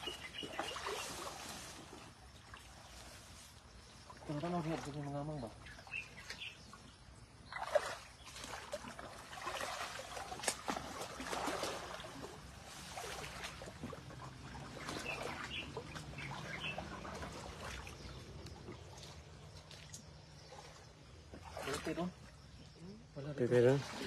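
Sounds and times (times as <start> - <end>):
boots wading through water: 0.0 - 22.7.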